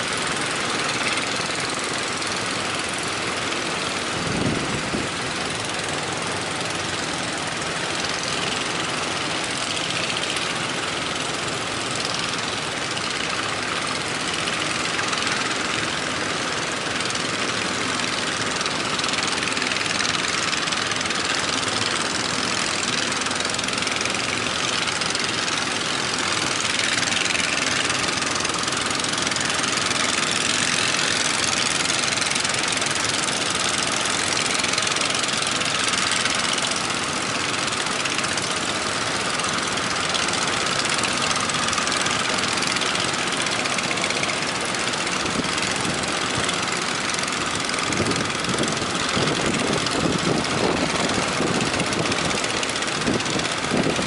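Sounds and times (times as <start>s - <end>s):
boat engine knocking: 0.0s - 54.0s
continuous rushing noise: 0.0s - 54.0s.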